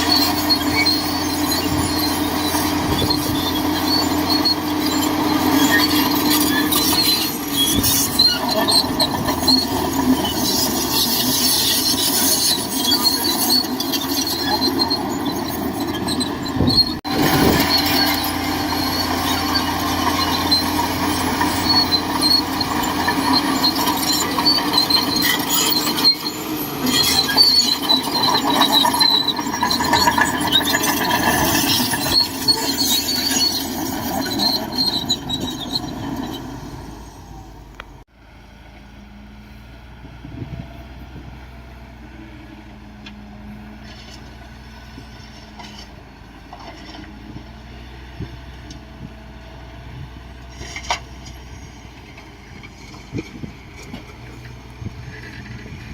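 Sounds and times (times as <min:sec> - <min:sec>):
high-pitched squeals from steel tracks: 0:00.0 - 0:38.0, 0:42.1 - 0:55.9
bulldozer engine running: 0:00.0 - 0:55.9.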